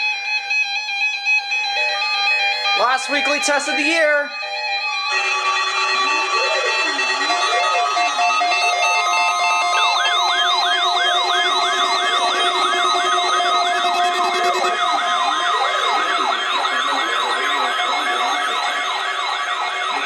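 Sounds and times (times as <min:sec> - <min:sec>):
wailing siren: 0:00.0 - 0:20.0
rising whoop siren: 0:01.7 - 0:20.0
steady alert tones: 0:02.7 - 0:20.0.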